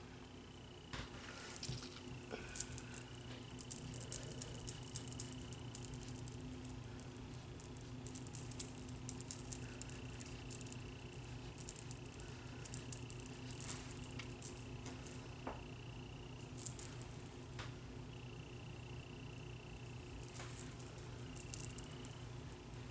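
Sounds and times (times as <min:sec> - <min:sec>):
low electrical hum: 0:00.0 - 0:22.9.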